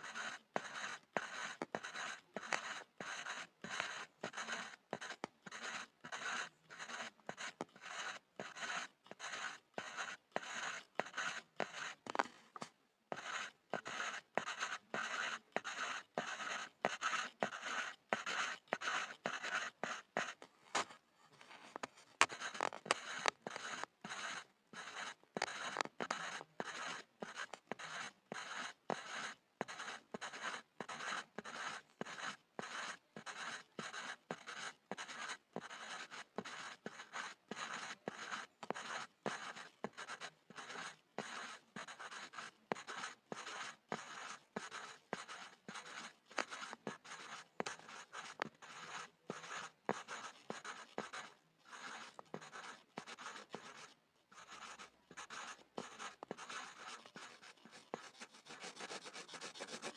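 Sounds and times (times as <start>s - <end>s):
pencil scribbling on a board: 0.0s - 12.2s, 13.1s - 21.0s, 21.6s - 59.9s.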